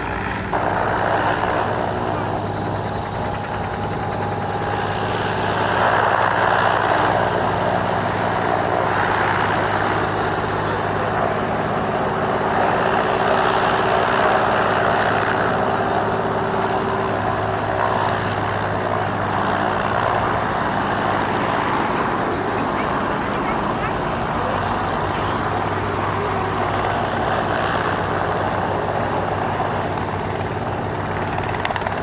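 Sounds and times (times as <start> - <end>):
helicopter engine and rotors: 0.0 - 32.0.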